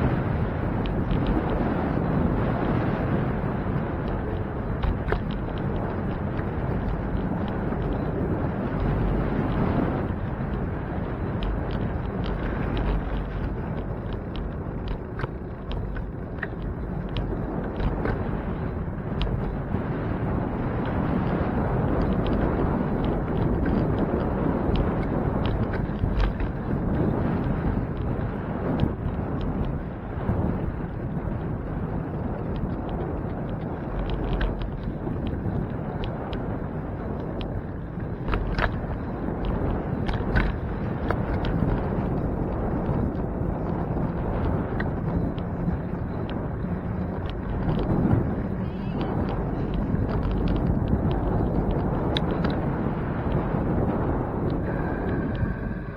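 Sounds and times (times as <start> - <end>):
small clicks and rattles: 0.0 - 55.9
wind and road rumble: 0.0 - 55.9.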